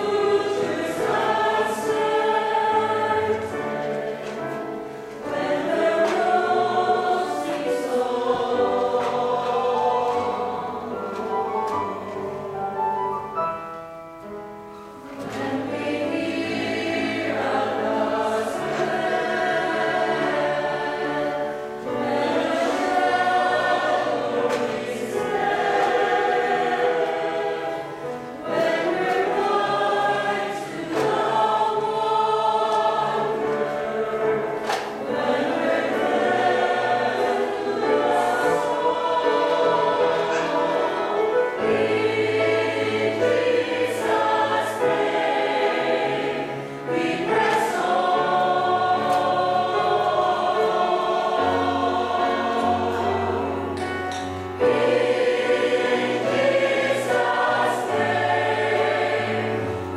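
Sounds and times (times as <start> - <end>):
church choir singing: 0.0 - 59.9.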